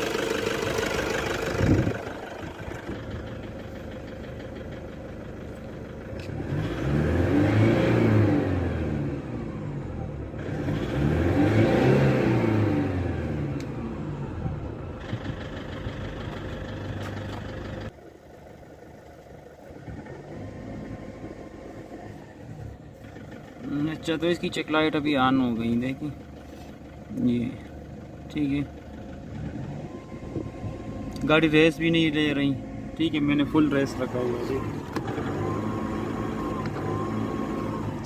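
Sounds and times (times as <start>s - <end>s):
diesel engine revving and idling: 0.0s - 38.0s.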